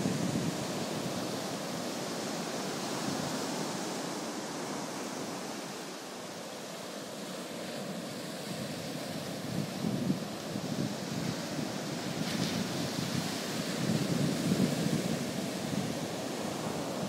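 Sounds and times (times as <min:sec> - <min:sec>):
ocean surf breaking on sand: 0:00.0 - 0:17.0.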